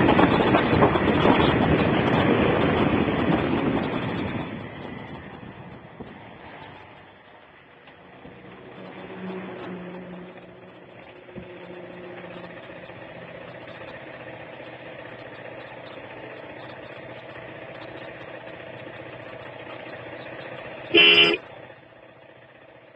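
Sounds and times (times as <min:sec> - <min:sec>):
road noise: 0:00.0 - 0:22.9
vehicle engine running: 0:00.0 - 0:22.9.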